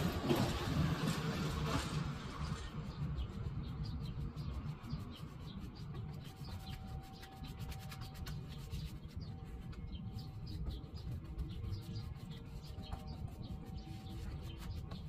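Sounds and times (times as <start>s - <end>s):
scratchy rubbing on wooden door: 1.4s - 15.0s.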